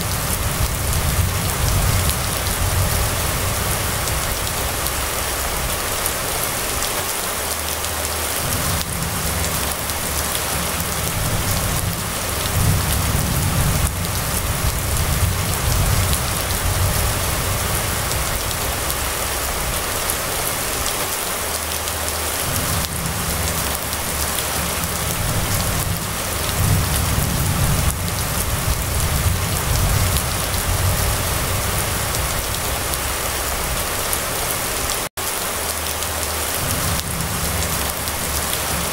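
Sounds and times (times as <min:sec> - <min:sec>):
low rumble: 0:00.0 - 0:06.9, 0:08.3 - 0:20.9, 0:22.4 - 0:34.2
rain falling on wet road: 0:00.0 - 0:38.9.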